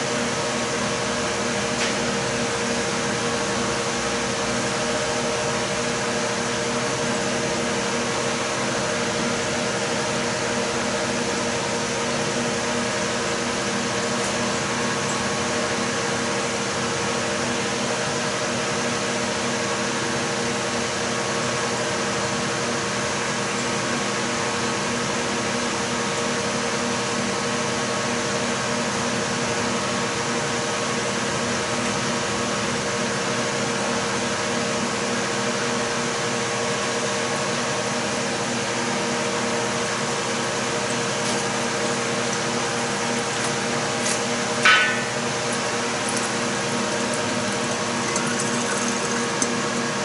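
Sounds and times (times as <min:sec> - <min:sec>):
mechanical hum and hiss: 0:00.0 - 0:50.0.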